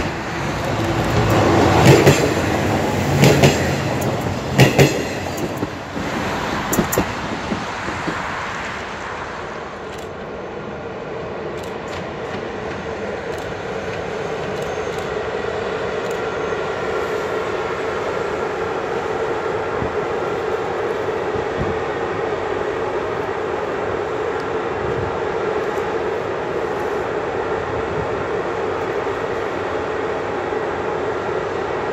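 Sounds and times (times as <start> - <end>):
electric locomotive humming: 0.0 - 31.9.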